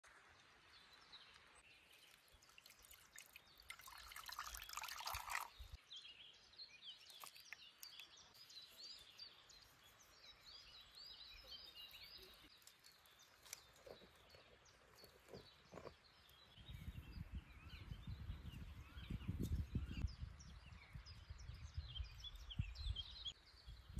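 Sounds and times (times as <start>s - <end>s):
small birds chirping: 0.2s - 23.9s.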